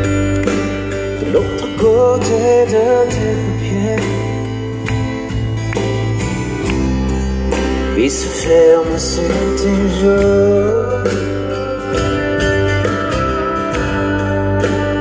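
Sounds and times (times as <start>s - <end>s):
country folk band playing: 0.0s - 15.0s.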